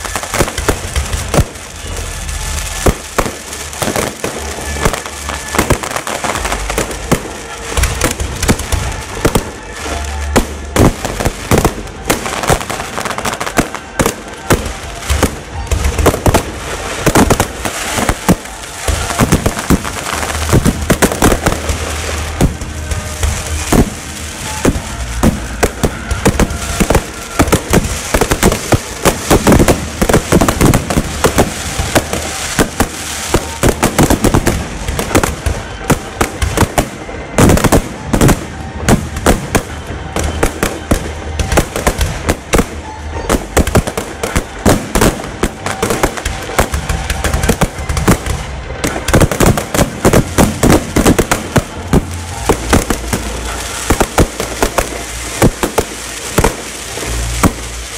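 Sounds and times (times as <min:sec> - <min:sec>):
firework crackle and hiss: 0:00.0 - 0:57.9
firework shells bursting: 0:00.0 - 0:57.9.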